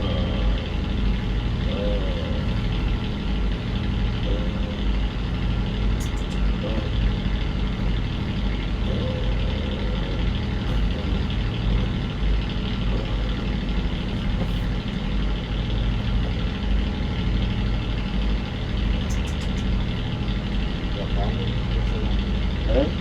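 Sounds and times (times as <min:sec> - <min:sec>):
ship engine humming: 0:00.0 - 0:23.0.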